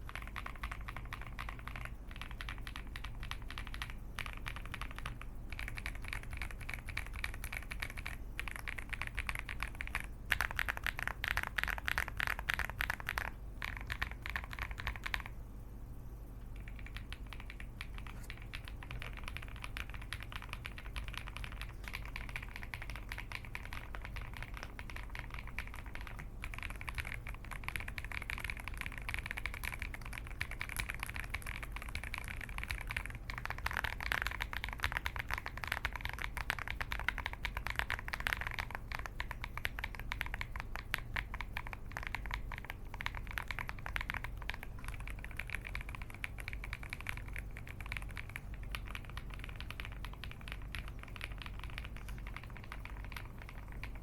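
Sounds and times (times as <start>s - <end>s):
mechanical keyboard typing: 0.0s - 15.4s, 16.5s - 54.0s
faint steady hum: 0.0s - 54.0s.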